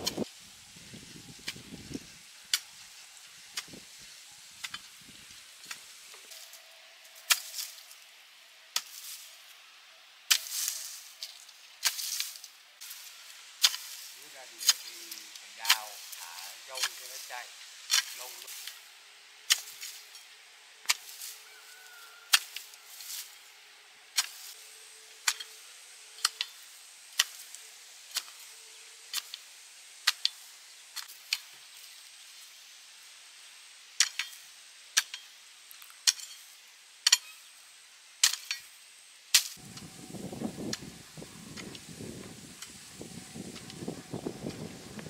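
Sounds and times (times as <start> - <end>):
rough rustling noise: 0.0 - 33.4, 38.5 - 45.0.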